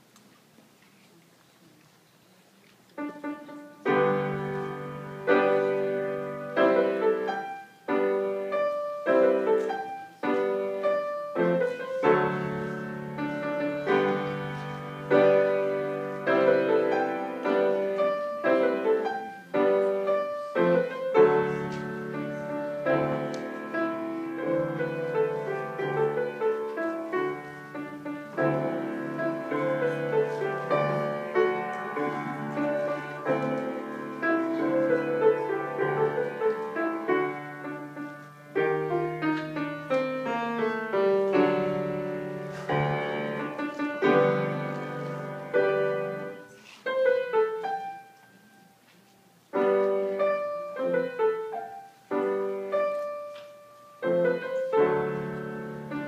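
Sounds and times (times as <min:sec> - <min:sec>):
grand piano playing: 0:03.0 - 0:56.0.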